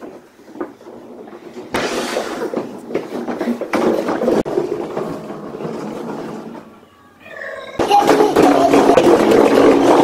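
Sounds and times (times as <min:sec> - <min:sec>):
plastic toy trucks rattling: 0:00.0 - 0:06.8, 0:07.8 - 0:10.0.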